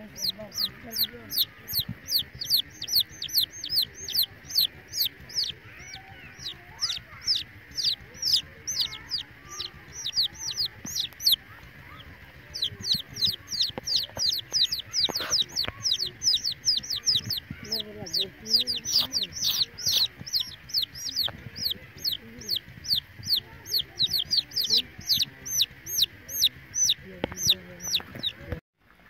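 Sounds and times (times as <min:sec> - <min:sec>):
chicks peeping: 0:00.0 - 0:28.6.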